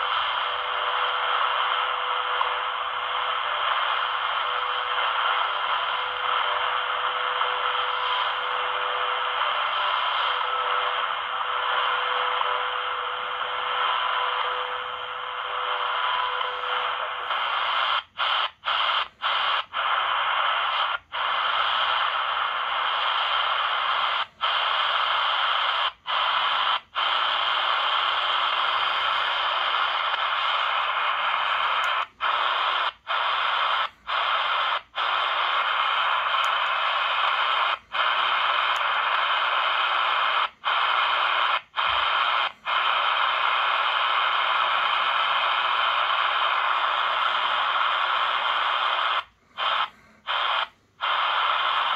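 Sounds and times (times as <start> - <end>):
shortwave static hissing: 0.0 - 51.9.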